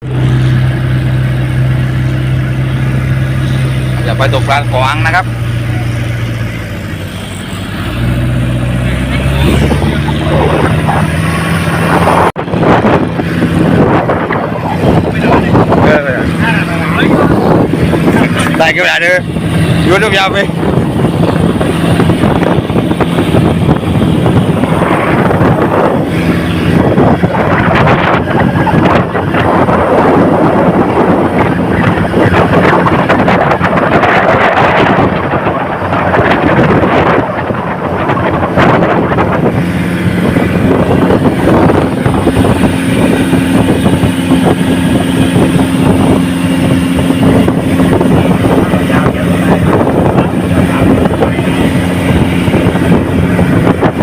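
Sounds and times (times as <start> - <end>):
boat engine running: 0.0 - 54.0
wind buffeting microphone: 0.0 - 54.0.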